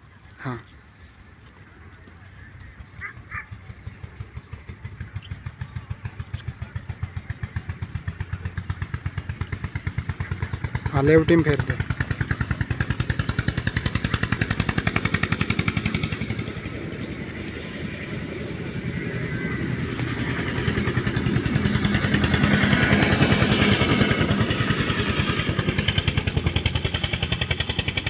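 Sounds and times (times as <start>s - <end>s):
engine chugging: 0.0s - 28.0s.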